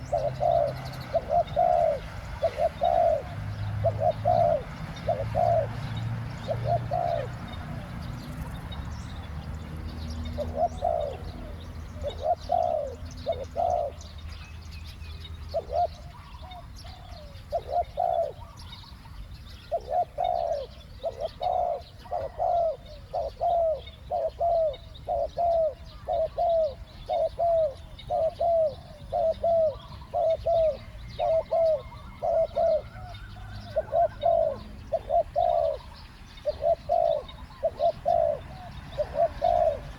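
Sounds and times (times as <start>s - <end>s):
doves cooing: 0.0s - 8.7s, 9.7s - 14.4s, 15.4s - 39.9s
small birds chirping: 0.0s - 39.9s.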